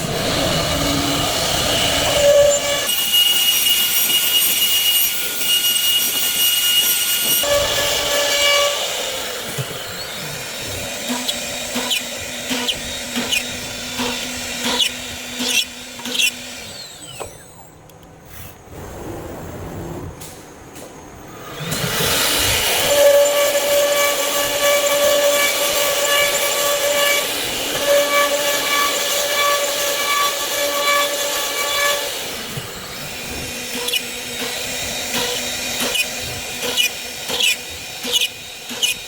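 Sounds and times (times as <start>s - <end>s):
router cutting wood: 0.0s - 17.6s, 21.4s - 39.0s
wood router spindle whine: 0.0s - 17.8s, 21.4s - 39.0s.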